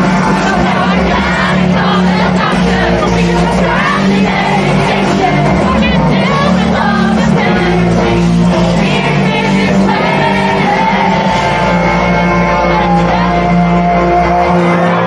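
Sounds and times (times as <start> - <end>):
live rock band: 0.0 - 15.0
person singing lead vocal: 0.0 - 15.0.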